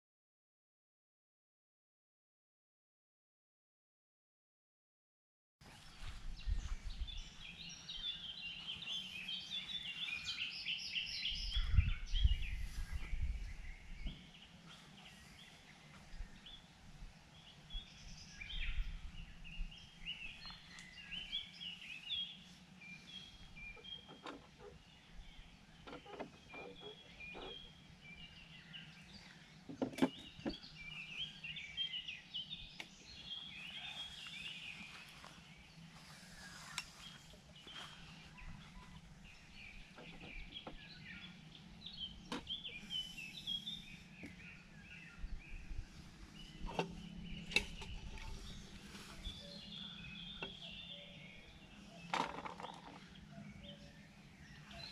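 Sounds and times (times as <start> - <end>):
birds singing and chirping: 5.7 - 54.9.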